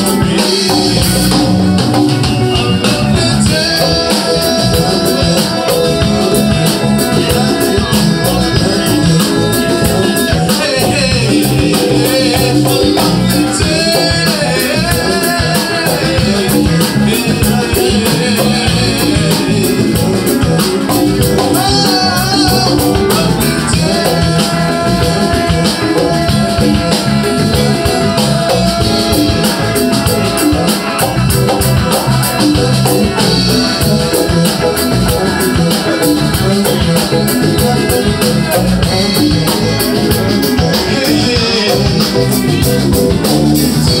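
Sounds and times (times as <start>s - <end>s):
congas: 0.0s - 44.0s
live band playing latin music: 0.0s - 44.0s
man singing into a microphone: 0.0s - 44.0s.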